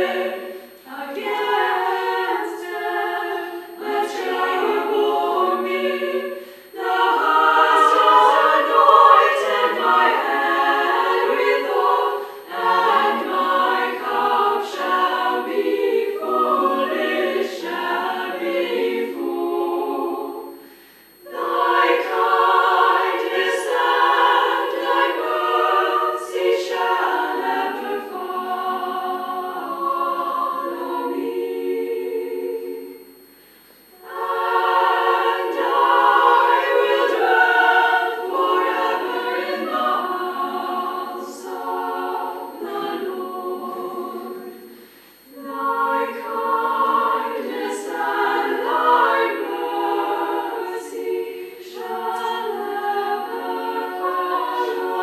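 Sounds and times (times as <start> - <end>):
women's choir singing unaccompanied: 0.0 - 55.0.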